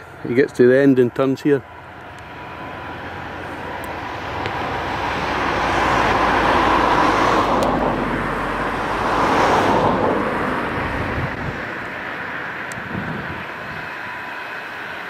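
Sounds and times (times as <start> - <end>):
vehicle rushing noise: 1.8 - 15.0.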